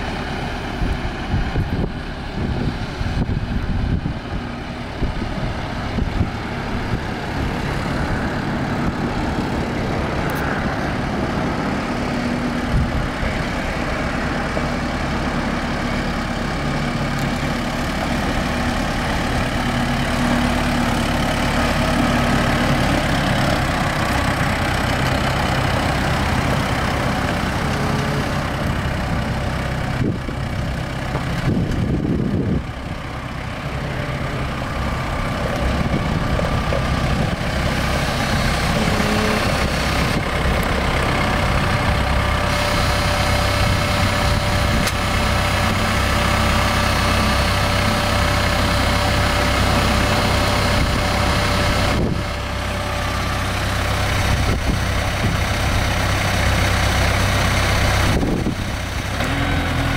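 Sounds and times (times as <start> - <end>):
tires on gravel: 0.0 - 59.9
tractor diesel engine running: 0.0 - 59.9.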